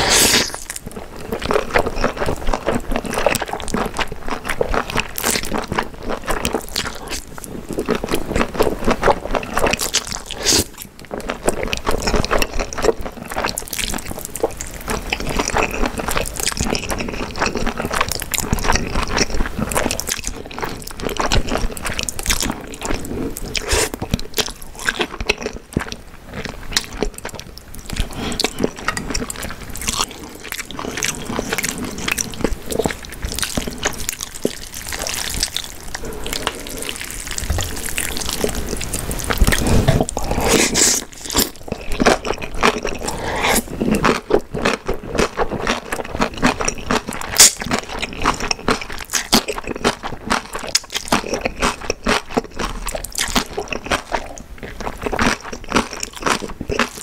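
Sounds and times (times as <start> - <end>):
wet chewing and slurping: 0.0 - 57.0.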